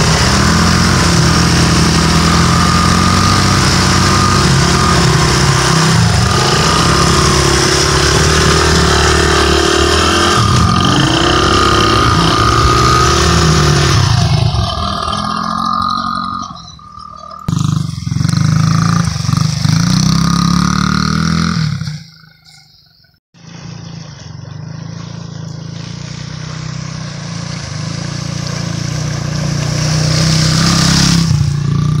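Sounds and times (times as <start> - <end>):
dirt bike engine revving: 0.0 - 22.3, 23.4 - 32.0.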